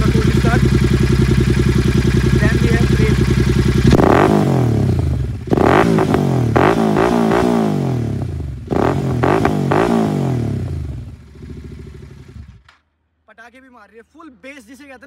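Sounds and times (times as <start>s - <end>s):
motorcycle engine throttle blips: 0.0s - 12.9s.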